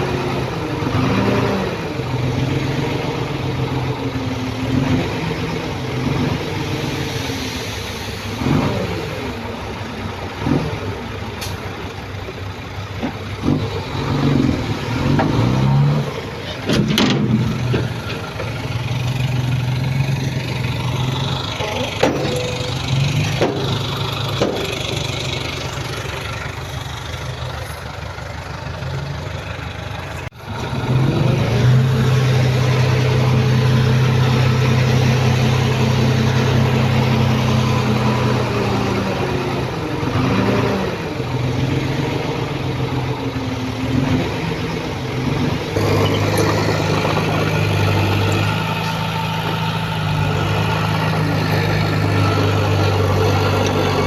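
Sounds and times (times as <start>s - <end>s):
diesel engine of heavy machinery: 0.0s - 54.0s.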